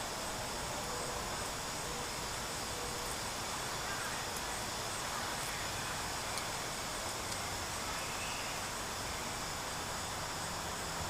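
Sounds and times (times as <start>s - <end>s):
outdoor hiss: 0.0s - 11.0s.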